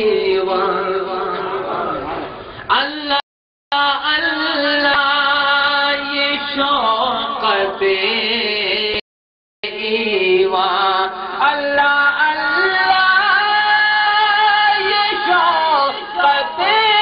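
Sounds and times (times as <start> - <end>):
person singing devotional chant: 0.0 - 9.0, 9.6 - 17.0.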